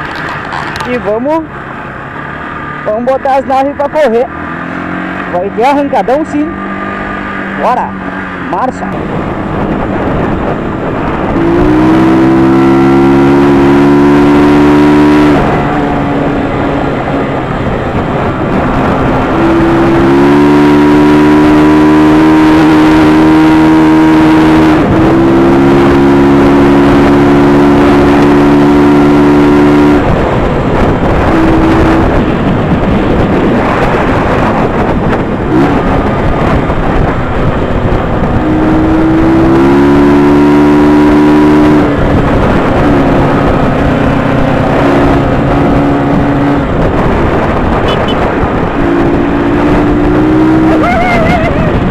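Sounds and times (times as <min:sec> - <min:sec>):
motorcycle engine accelerating: 0:00.0 - 0:51.9
steady rush of noise: 0:00.0 - 0:51.9.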